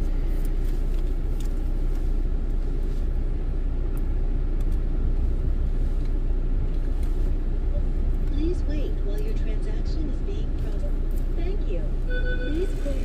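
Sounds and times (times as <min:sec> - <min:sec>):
car idling: 0:00.0 - 0:13.0.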